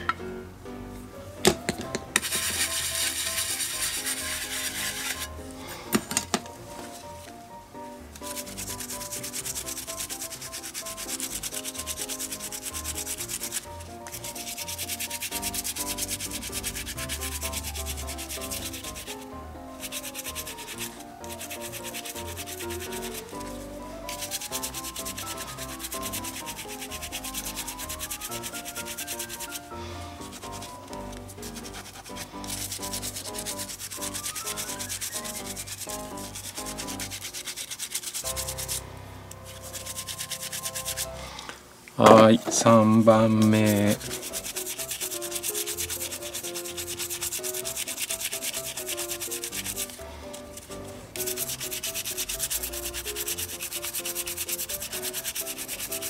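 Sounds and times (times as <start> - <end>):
brush scrubbing leather laces: 2.2 - 5.4, 8.2 - 19.2, 19.8 - 38.8, 39.5 - 41.1, 42.6 - 56.0.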